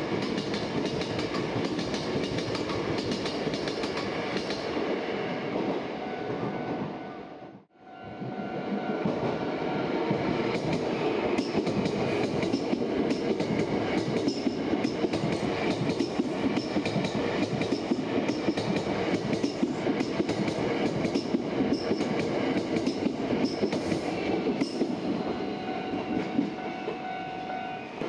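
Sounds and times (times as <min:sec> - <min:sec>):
train wheels clacking on rails: 0:00.0 - 0:05.8, 0:08.2 - 0:27.5.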